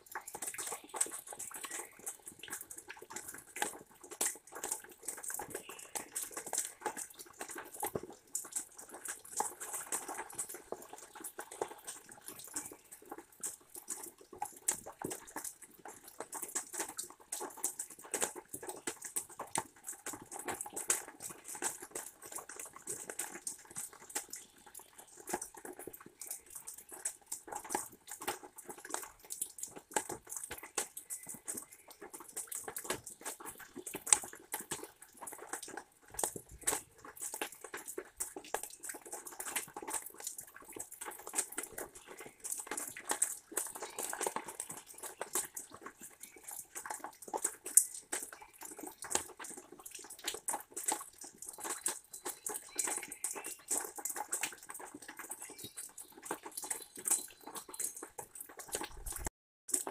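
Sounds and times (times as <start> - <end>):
rain dripping: 0.0 - 59.9.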